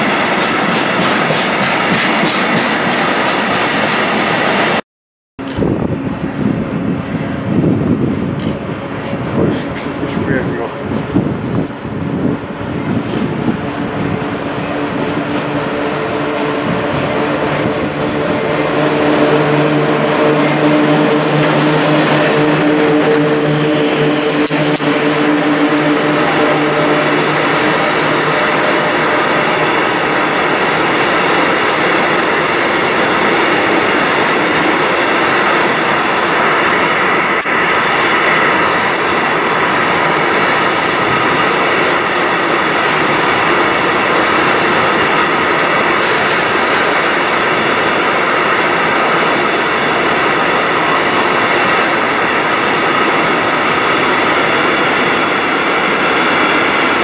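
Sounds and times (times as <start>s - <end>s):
steel wheels rushing on rail: 0.0s - 4.8s, 5.5s - 57.0s.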